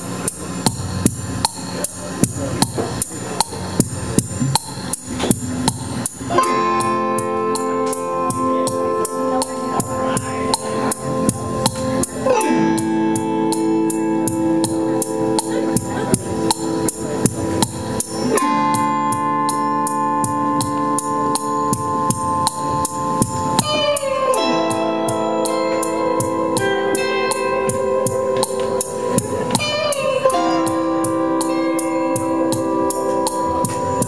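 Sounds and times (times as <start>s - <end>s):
electric guitar chords: 0.0s - 34.0s
keyboard chords: 0.0s - 34.0s
percussive beat: 0.0s - 34.0s.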